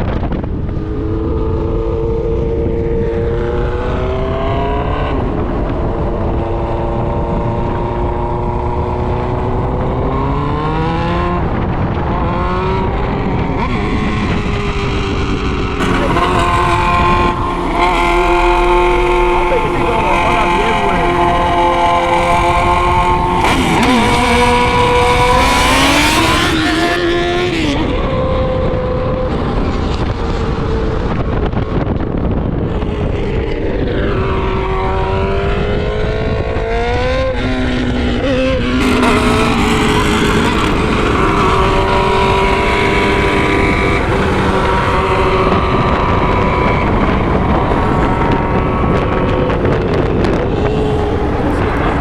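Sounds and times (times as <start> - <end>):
vehicle engine pulling hard: 0.0 - 52.0
wind and road noise: 0.0 - 52.0.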